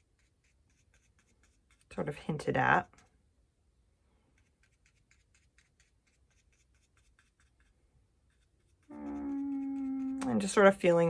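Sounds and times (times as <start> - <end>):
paintbrush dabbing paint on paper: 0.0 - 3.2, 4.2 - 11.0.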